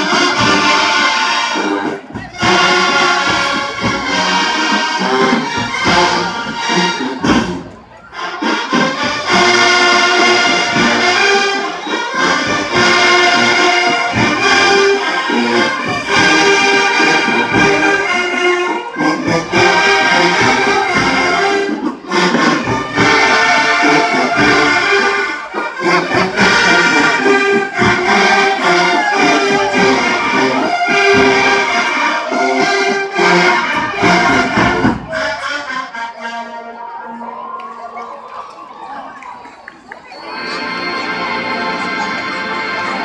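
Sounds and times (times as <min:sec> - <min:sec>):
brass band playing chords: 0:00.0 - 0:43.0.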